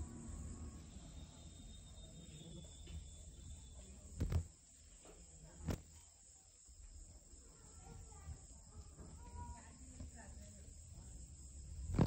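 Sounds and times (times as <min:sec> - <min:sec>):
night insects calling: 0:00.0 - 0:12.0.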